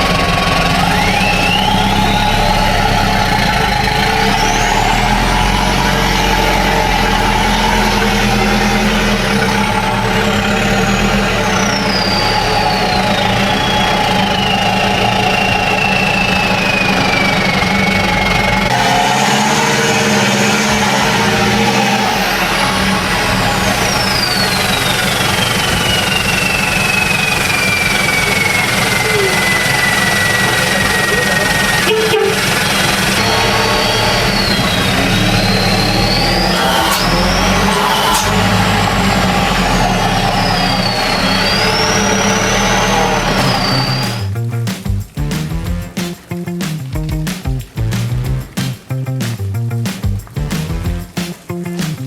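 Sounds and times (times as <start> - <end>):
thin high whistle: 0.0 - 44.3
diesel truck engine idling: 0.0 - 45.9.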